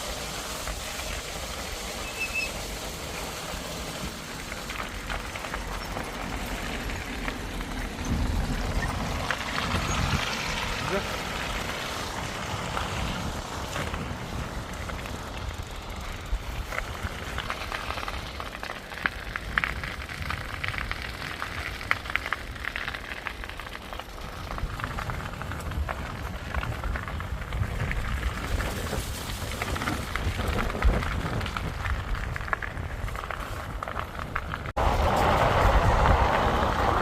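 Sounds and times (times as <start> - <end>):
irregular crackle: 0.0 - 37.0
wind rumbling on microphone: 0.0 - 37.0.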